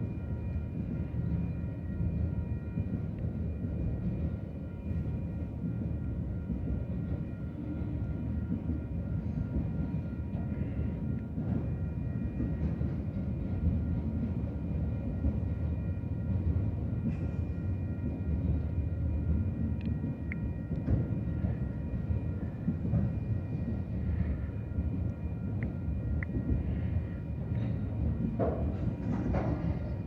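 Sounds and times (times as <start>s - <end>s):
freight train wheels rumbling on rail: 0.0s - 30.0s.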